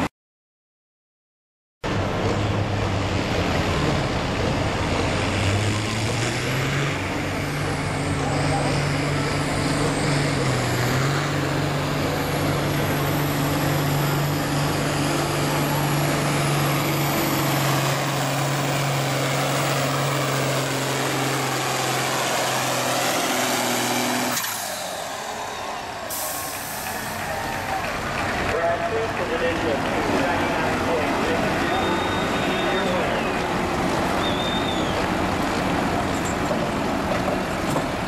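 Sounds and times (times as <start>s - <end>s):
tractor diesel engine at high revs: 1.8s - 38.0s.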